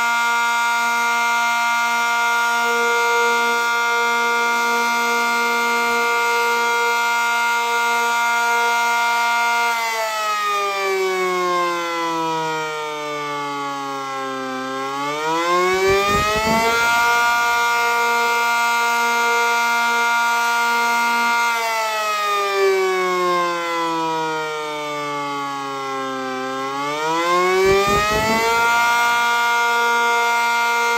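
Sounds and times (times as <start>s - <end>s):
warning siren: 0.0s - 30.9s.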